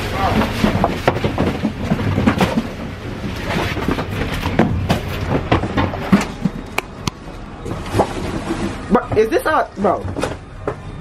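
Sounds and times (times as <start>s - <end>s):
rustling background noise: 0.0s - 11.0s
knocks and clatter: 0.3s - 9.4s.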